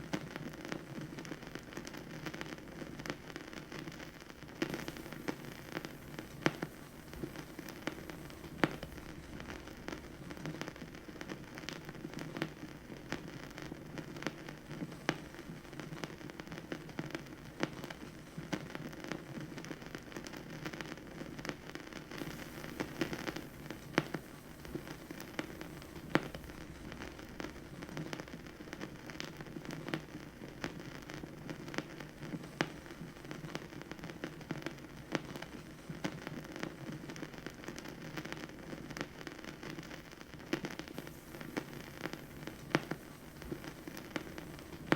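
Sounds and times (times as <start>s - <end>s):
vinyl record crackle and pops: 0.0s - 44.9s.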